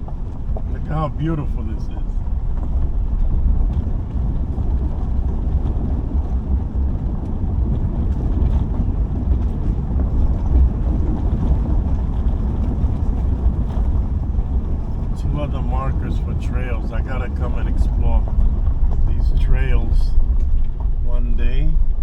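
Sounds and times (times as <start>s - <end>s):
road and engine rumble: 0.0s - 22.0s
wind buffeting microphone: 0.0s - 22.0s.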